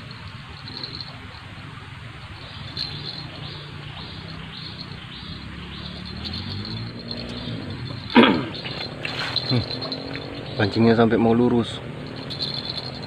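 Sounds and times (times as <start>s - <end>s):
insect chirping: 0.0s - 11.0s, 11.8s - 13.0s.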